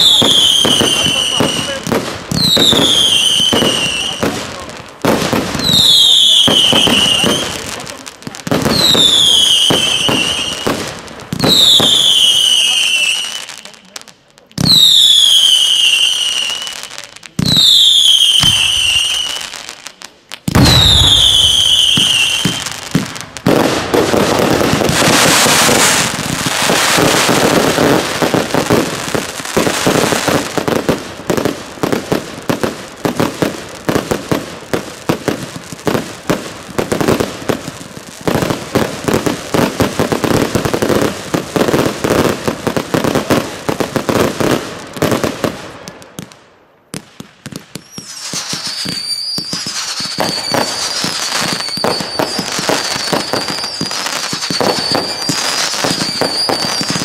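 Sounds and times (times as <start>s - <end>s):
whistling firework shots: 0.0s - 14.0s, 14.6s - 57.0s
crackling and banging fireworks: 0.0s - 57.0s.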